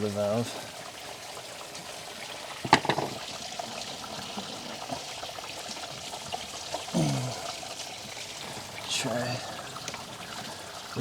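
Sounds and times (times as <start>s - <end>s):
water pouring from pipe: 0.0s - 11.0s.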